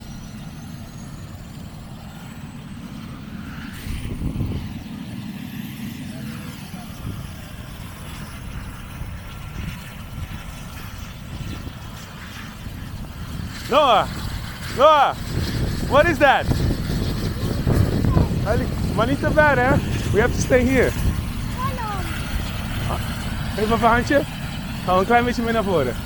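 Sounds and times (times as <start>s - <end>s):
helicopter engine and rotor running: 0.0s - 26.0s.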